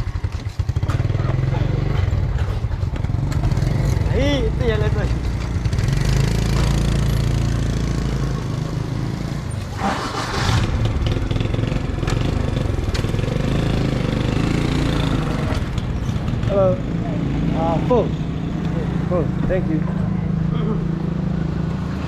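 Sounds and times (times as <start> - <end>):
motorbike engine running: 0.0 - 9.2, 10.1 - 20.7.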